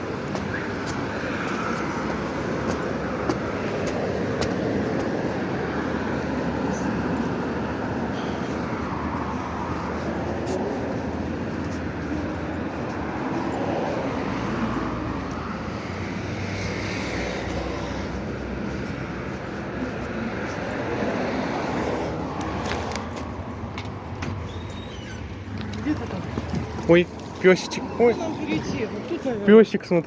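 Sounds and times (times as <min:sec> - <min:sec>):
road vehicle rumble: 0:00.0 - 0:30.0.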